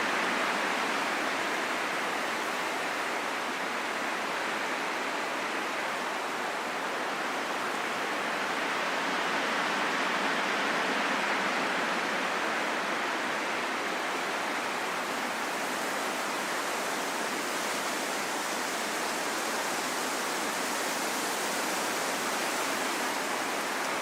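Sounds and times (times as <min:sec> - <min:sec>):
rain falling in a forest: 0:00.0 - 0:24.0.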